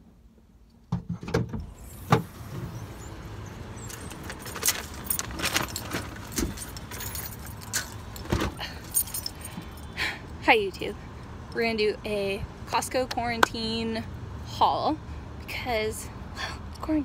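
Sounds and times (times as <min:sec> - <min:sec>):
distant traffic: 0:01.5 - 0:17.0.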